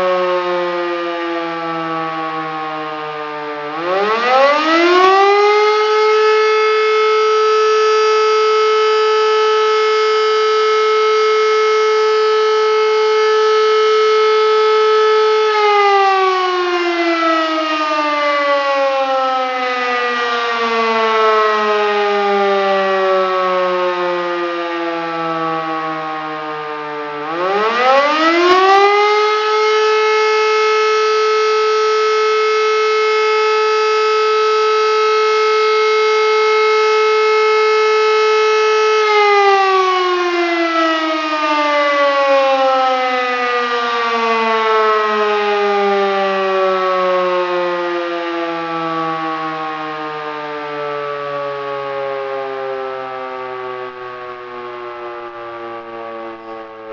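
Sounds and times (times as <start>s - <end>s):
electric motor siren wailing: 0.0s - 56.9s.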